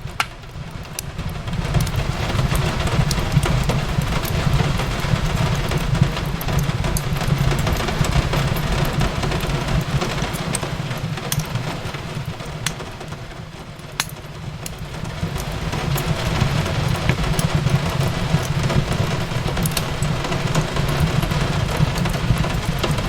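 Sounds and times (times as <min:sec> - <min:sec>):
fireplace crackling: 0:00.0 - 0:23.0
rain on a window: 0:00.0 - 0:23.0.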